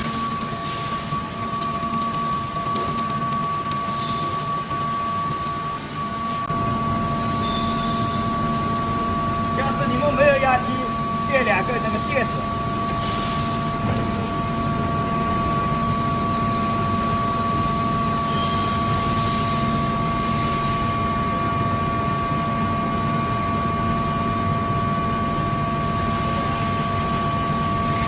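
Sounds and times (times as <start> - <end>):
constant whining tones: 0.0 - 28.0
machinery drone: 0.0 - 28.0.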